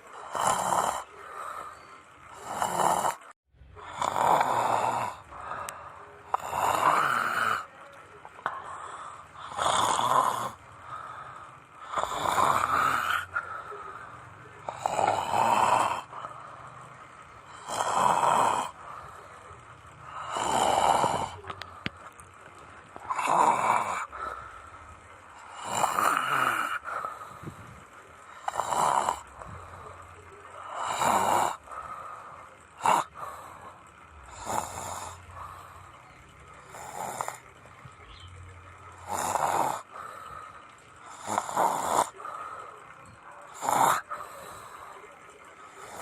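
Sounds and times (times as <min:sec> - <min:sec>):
person snoring: 0:00.0 - 0:22.2, 0:23.0 - 0:36.0, 0:36.6 - 0:37.5, 0:39.0 - 0:42.8, 0:43.5 - 0:45.0, 0:45.7 - 0:46.0
quiet breaths: 0:00.0 - 0:46.0.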